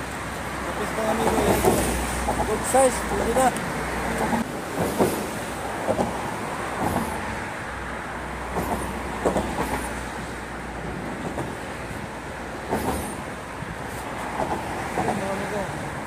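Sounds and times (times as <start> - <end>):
road traffic on a bridge: 0.0 - 16.0.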